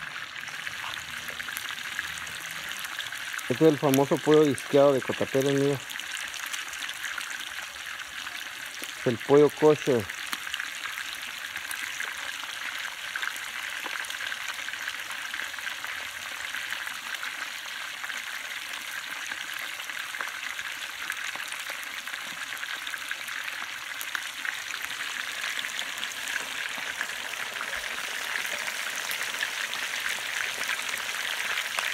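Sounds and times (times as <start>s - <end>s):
chicken sizzling in hot oil: 0.0s - 31.9s.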